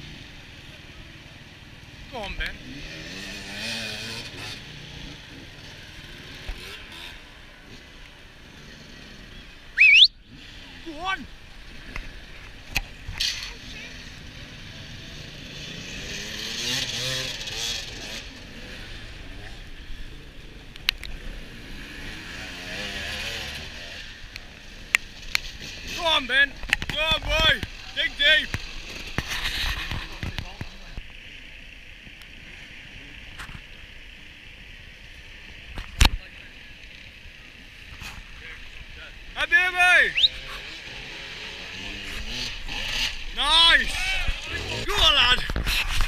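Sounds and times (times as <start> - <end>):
distant motorcycle engines revving: 0.0 - 46.0
outdoor background noise: 0.0 - 46.0.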